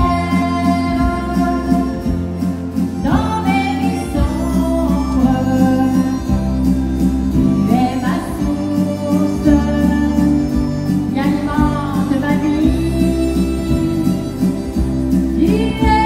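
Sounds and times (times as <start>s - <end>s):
acoustic guitar: 0.0s - 16.0s
bass line: 0.0s - 16.0s
harmonica: 0.0s - 16.0s
woman singing: 0.0s - 16.0s.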